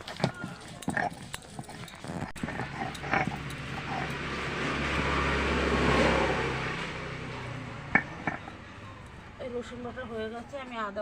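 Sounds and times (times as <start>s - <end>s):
mixer grinder motor running: 0.0s - 9.2s.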